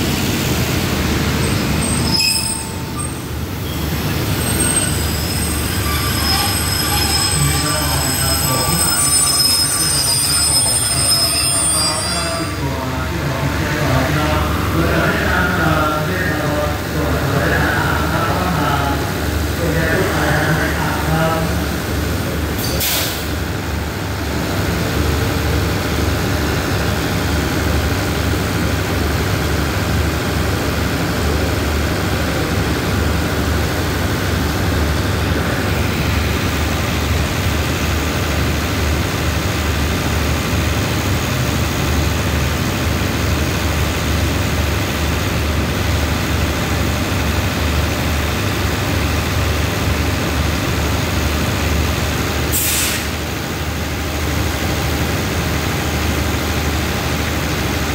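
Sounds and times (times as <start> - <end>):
diesel train engines idling: 0.0 - 57.9.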